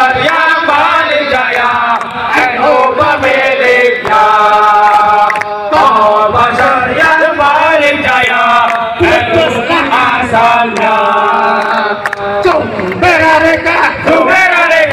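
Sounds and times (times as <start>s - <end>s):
crowd of men chanting: 0.0s - 14.9s.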